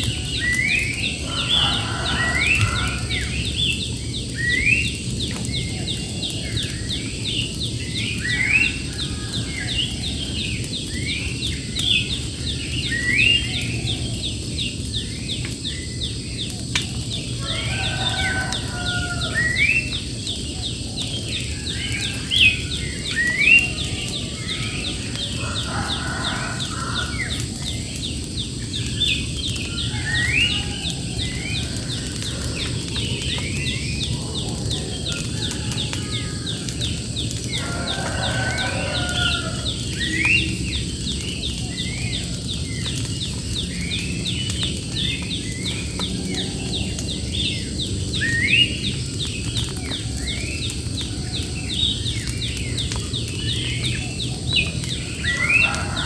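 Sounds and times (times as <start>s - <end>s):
birds whistling: 0.0s - 56.0s.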